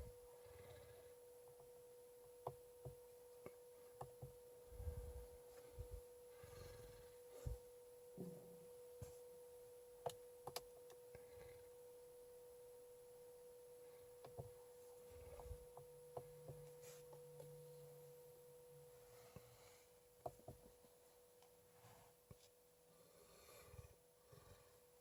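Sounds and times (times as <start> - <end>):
faint low hum: 0.0 - 25.0
faint steady tone: 0.0 - 25.0.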